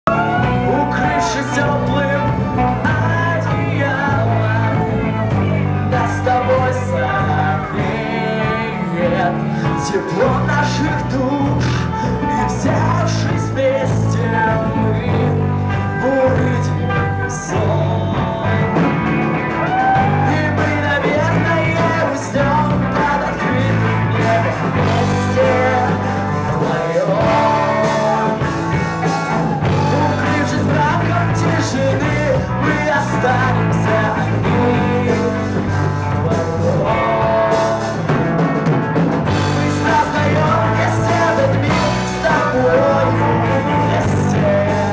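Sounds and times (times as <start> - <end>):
person singing: 0.0 - 38.5, 39.2 - 44.9
rock band playing live: 0.0 - 44.9.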